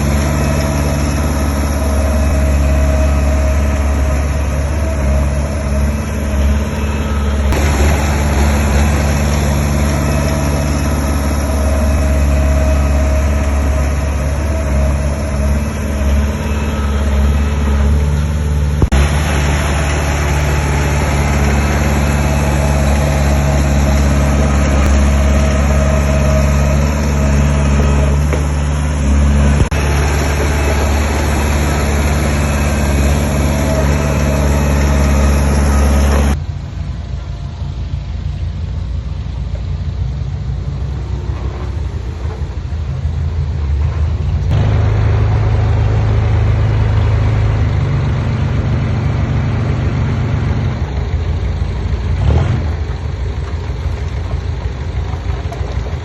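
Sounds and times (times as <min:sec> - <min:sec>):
loud diesel engine humming: 0:00.0 - 0:56.0
quieter engine running: 0:00.0 - 0:56.0.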